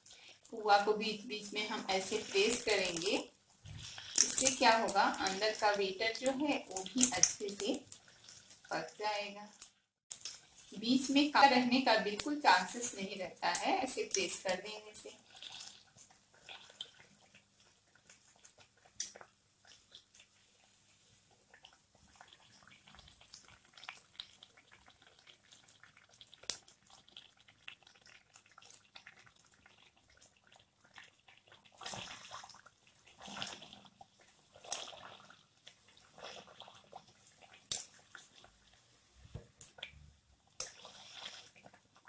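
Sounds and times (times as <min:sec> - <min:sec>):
batter deep-frying in oil: 0:00.0 - 0:42.0
surges of sizzling: 0:00.0 - 0:42.0.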